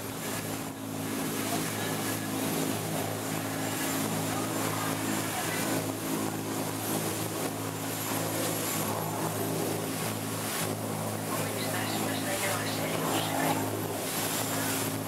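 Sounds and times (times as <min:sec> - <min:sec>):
boat engine droning: 0:00.0 - 0:15.0
water rushing along hull: 0:00.0 - 0:15.0.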